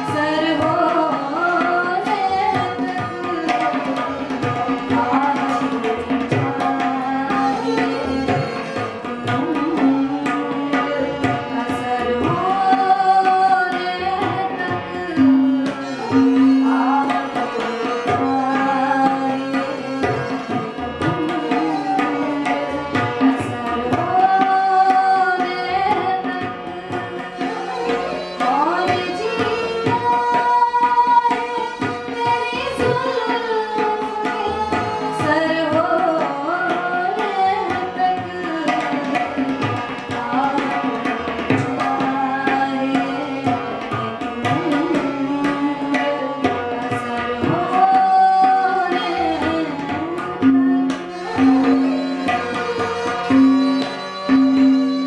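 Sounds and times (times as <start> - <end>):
bowed sarangi: 0.0 - 55.0
harmonium: 0.0 - 55.0
tabla: 0.0 - 55.0
woman singing: 0.0 - 55.0.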